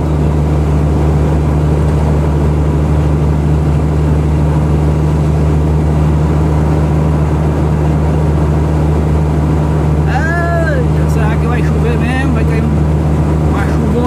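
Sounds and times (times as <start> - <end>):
engine drone inside vehicle: 0.0 - 14.0
road noise: 0.0 - 14.0.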